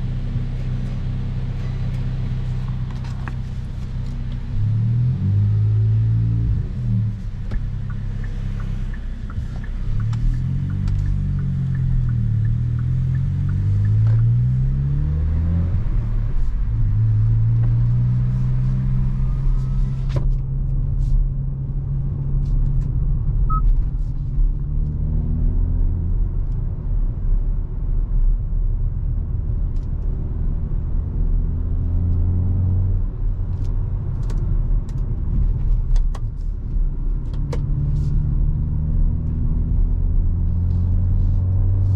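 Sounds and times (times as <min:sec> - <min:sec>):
car engine and exhaust driving: 0:00.0 - 0:41.9.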